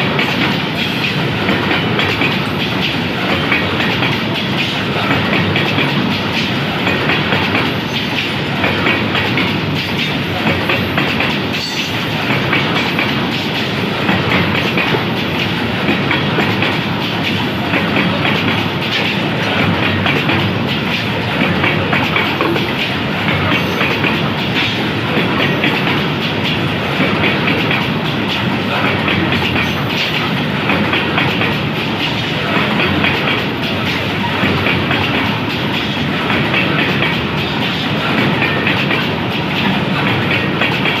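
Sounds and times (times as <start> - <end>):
train wheels clattering over rails: 0.0 - 41.0.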